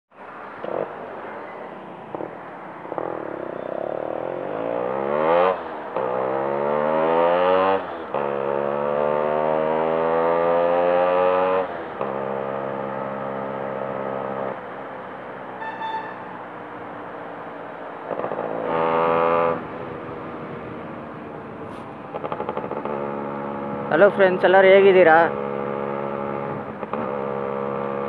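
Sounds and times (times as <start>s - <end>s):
motorcycle engine accelerating: 2.1s - 14.7s, 18.0s - 28.0s.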